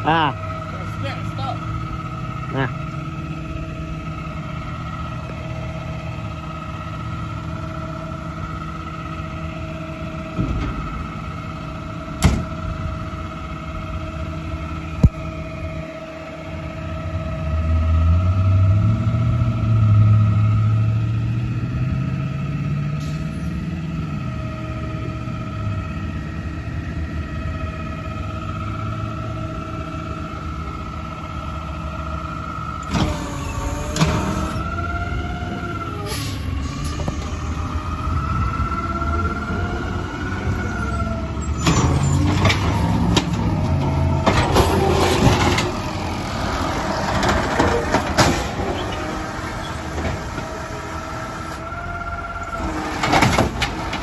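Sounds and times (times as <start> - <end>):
garbage truck engine idling: 0.0 - 54.0.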